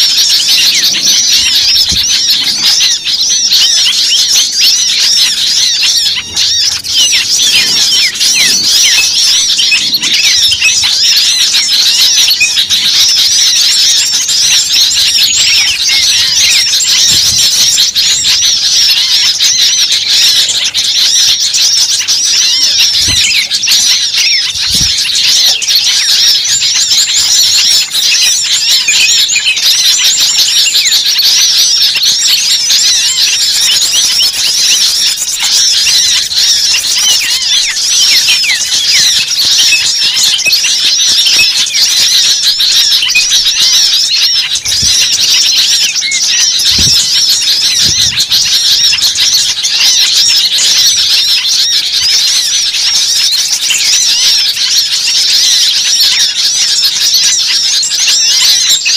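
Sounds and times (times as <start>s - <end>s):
small birds chirping chorus: 0.0s - 58.9s.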